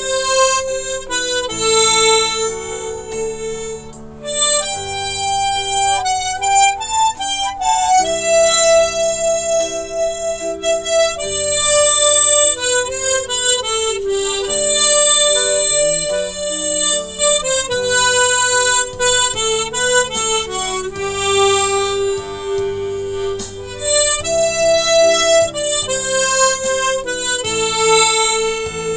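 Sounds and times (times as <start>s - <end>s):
harmonica melody: 0.0s - 28.9s
sustained backing accompaniment: 0.0s - 28.9s.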